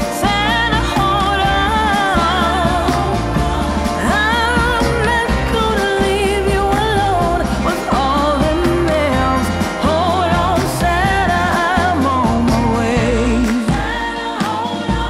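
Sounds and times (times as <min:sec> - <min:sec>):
song with singing voice and bass: 0:00.0 - 0:15.0.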